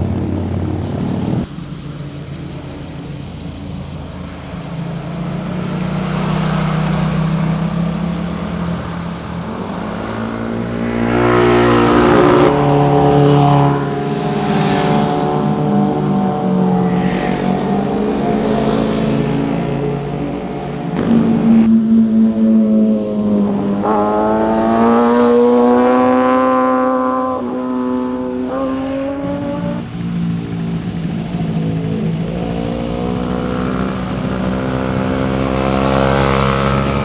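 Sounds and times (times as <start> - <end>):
motorcycle engines revving: 0.0 - 37.0.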